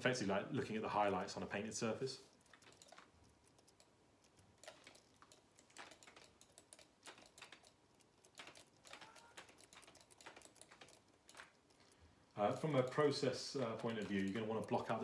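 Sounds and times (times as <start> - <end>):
computer keyboard typing: 2.3 - 15.0.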